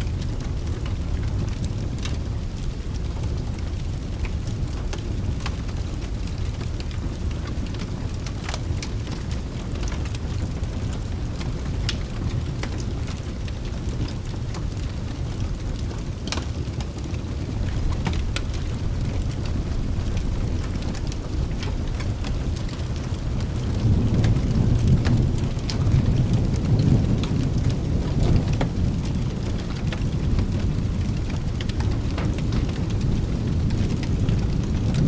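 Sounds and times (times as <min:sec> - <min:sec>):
thunder rumbling: 0:00.0 - 0:16.3, 0:17.0 - 0:35.0
steady rain: 0:00.0 - 0:35.0.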